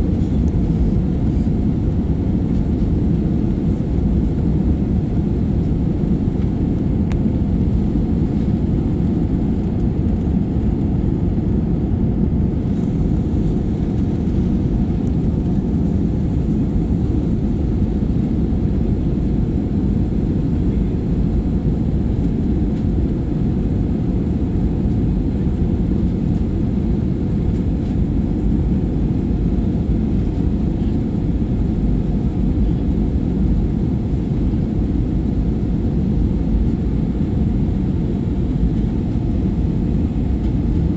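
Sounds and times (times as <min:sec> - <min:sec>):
jet cabin engine rumble: 0:00.0 - 0:40.9.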